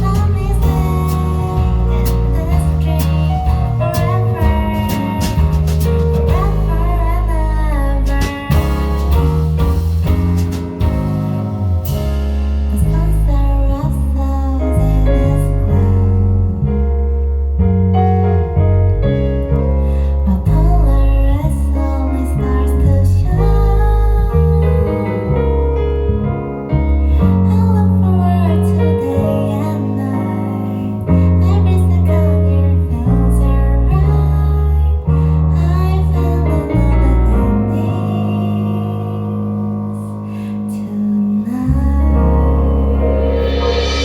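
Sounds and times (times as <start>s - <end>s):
woman singing: 0.0s - 9.2s, 12.7s - 16.7s, 20.0s - 25.5s, 27.1s - 44.0s
bass line: 0.0s - 44.0s.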